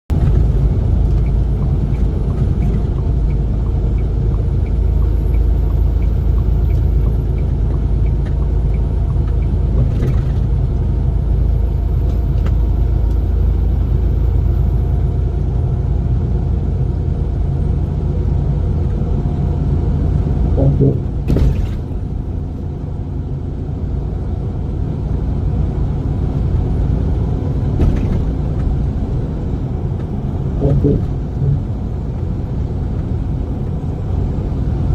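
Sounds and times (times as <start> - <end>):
road vehicle rumbling: 0.1 - 34.9.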